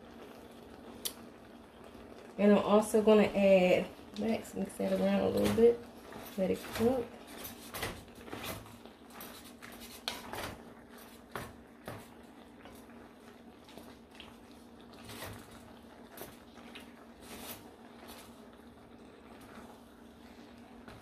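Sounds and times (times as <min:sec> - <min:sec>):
wooden spoon stirring in metal pot: 0:01.8 - 0:21.0.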